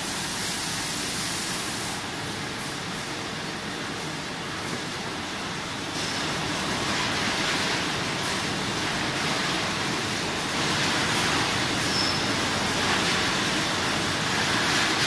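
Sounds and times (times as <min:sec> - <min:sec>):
machinery hiss and rumble: 0:00.0 - 0:15.0.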